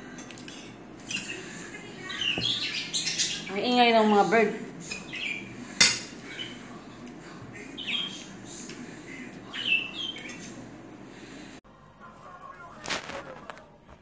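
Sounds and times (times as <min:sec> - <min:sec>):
caged birds chirping: 0:00.0 - 0:11.6.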